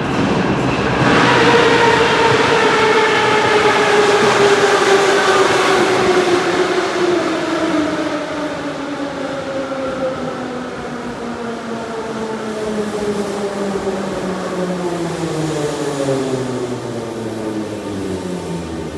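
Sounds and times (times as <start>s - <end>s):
train traction motor whine: 0.0s - 18.9s
wheels rumbling on rails: 0.0s - 18.9s.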